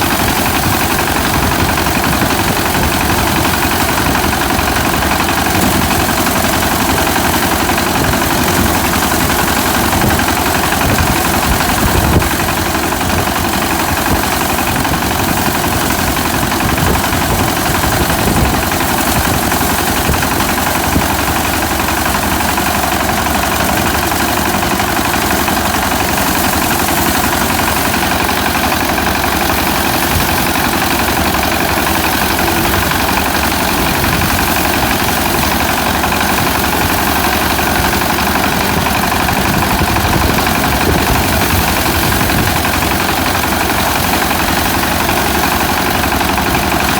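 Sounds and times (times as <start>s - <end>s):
harvester engine running: 0.0s - 46.9s.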